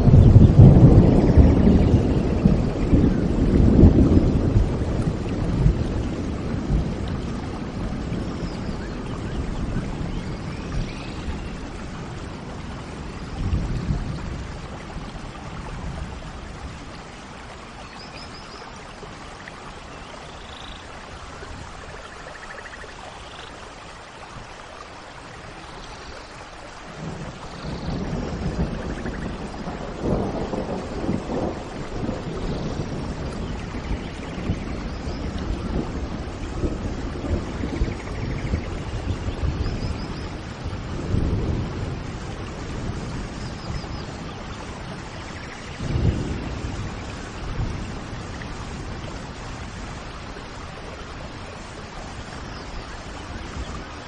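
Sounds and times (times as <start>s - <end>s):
rolling thunder: 0.0s - 17.0s, 26.9s - 54.0s
steady rain: 0.0s - 54.0s.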